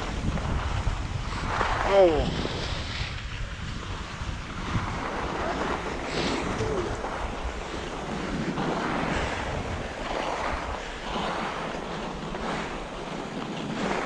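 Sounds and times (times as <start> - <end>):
skis scraping over snow: 0.0 - 14.0
wind on microphone: 0.0 - 14.0.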